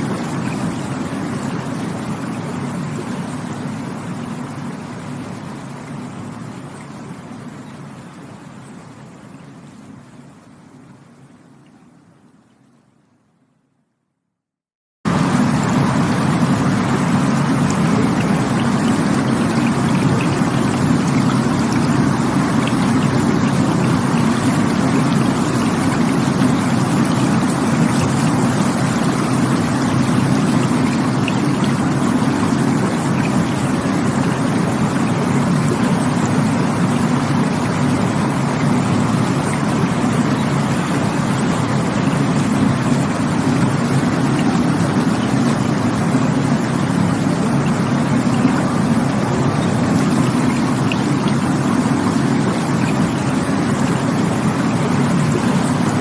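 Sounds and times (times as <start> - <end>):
stream water rushing: 0.0 - 11.8, 15.1 - 56.0.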